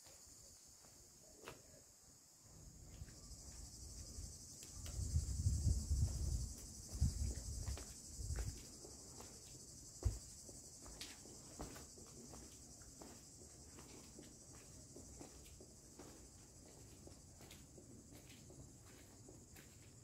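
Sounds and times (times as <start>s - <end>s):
insects chirring: 0.0s - 20.0s
footsteps on stone paving: 2.9s - 20.0s.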